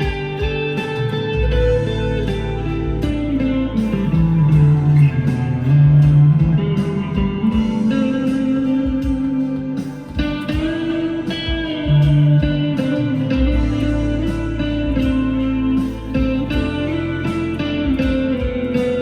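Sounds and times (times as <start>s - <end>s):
clean electric guitar with reverb: 0.0s - 19.0s.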